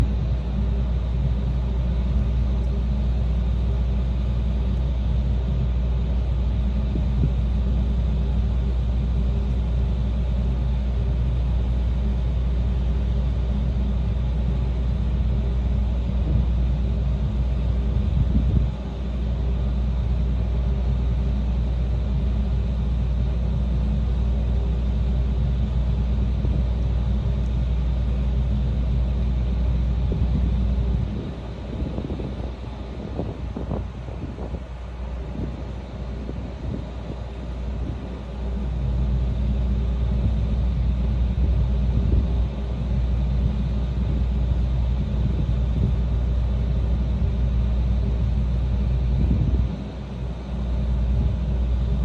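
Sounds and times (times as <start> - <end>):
ship engine low rumble: 0.0 - 52.0.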